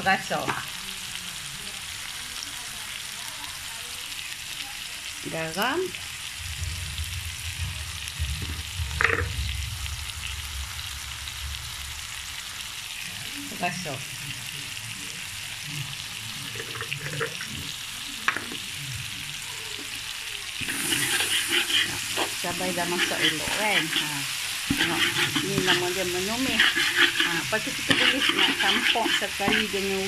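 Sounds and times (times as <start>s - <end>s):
paste sizzling in hot oil: 0.0s - 30.0s.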